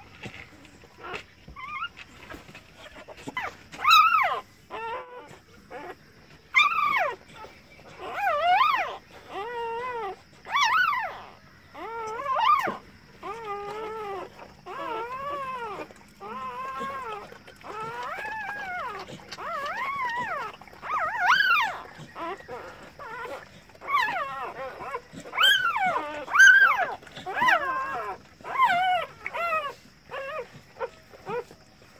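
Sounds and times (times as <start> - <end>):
dog whimpering: 1.0 - 31.9.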